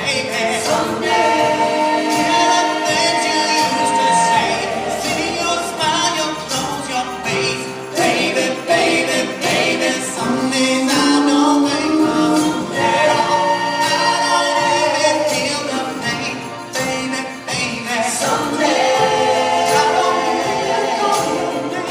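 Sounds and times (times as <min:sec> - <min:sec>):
man singing live: 0:00.0 - 0:20.4
music: 0:00.0 - 0:21.9.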